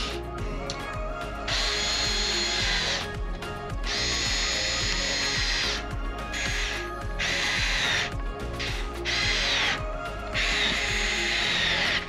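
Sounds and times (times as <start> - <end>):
power screwdriver whirring: 1.5 - 3.2, 3.8 - 12.0.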